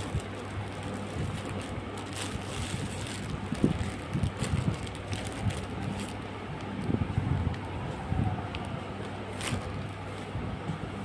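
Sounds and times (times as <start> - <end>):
plastic wrapping crinkling: 0.0 - 7.5, 8.5 - 10.3
steady low hum: 0.0 - 11.0.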